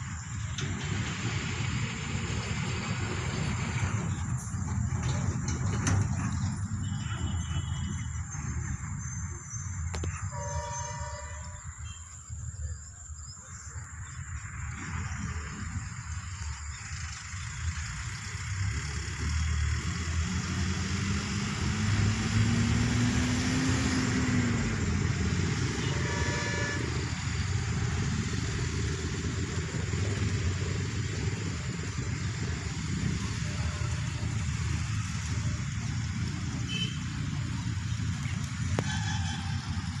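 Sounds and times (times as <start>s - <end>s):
passing vehicle engine: 0.0s - 11.9s, 13.8s - 40.0s.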